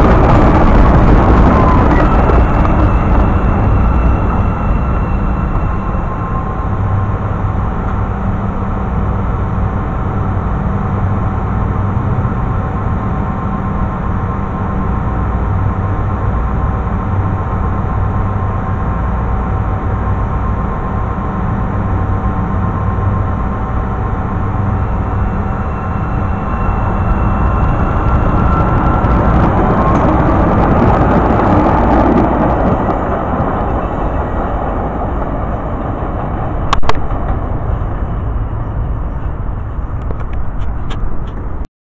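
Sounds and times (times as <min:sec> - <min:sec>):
train rail rumble: 0:00.0 - 0:41.7.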